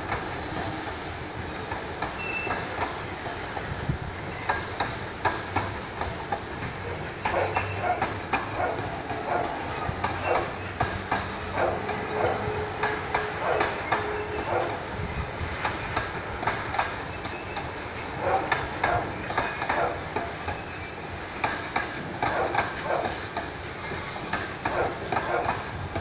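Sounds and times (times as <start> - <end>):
train rumble: 0.0 - 26.0
wheels clacking over rail joints: 0.0 - 26.0.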